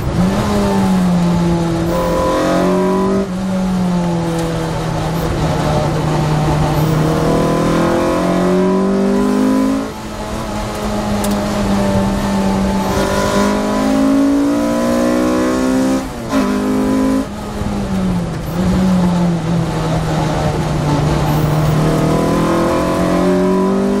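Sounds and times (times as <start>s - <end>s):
car engine revving hard: 0.0s - 24.0s
wind and road noise: 0.0s - 24.0s.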